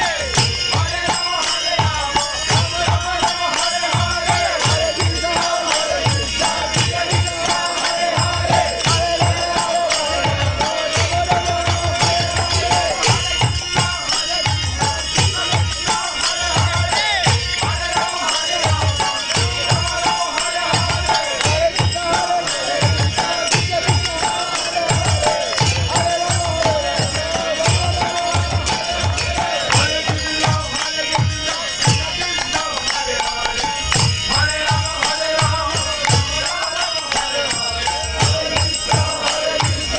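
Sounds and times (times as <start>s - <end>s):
hand cymbals ringing: 0.0s - 39.9s
repeating drum beat: 0.0s - 39.9s
person chanting: 2.0s - 39.9s.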